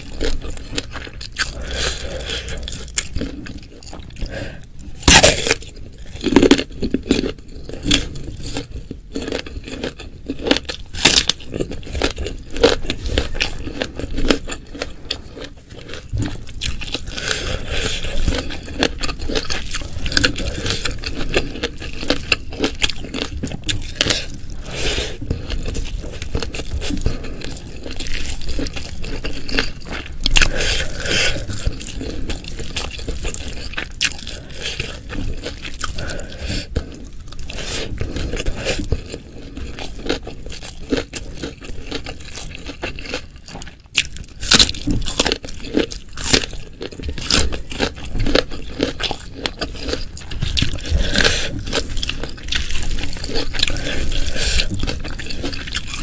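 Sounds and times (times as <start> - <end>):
food chewed and crunched: 0.0 - 56.0.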